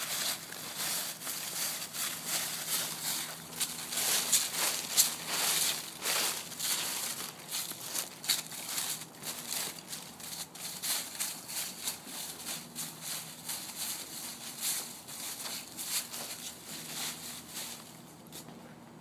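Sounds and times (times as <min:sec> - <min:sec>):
child's footsteps crunching leaves: 0:00.0 - 0:18.5.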